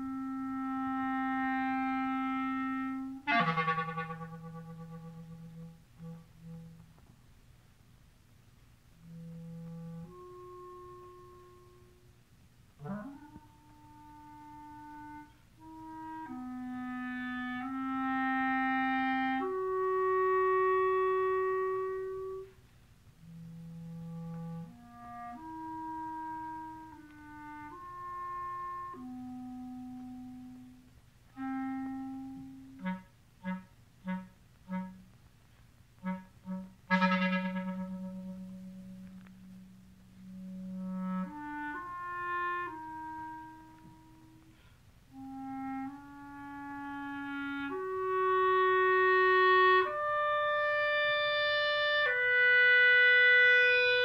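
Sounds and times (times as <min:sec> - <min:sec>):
clarinet playing: 0:00.0 - 0:07.2, 0:08.9 - 0:54.0.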